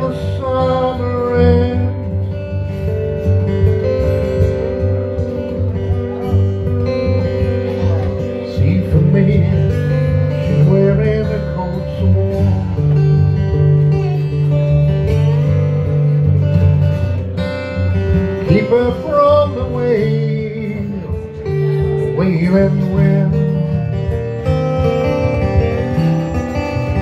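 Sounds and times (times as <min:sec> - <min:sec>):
acoustic slide guitar: 0:00.0 - 0:27.0.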